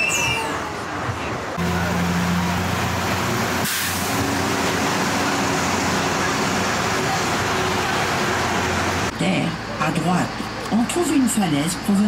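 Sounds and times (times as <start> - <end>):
road noise rushing: 0.0 - 11.9
vehicle engine rumble: 0.0 - 12.0.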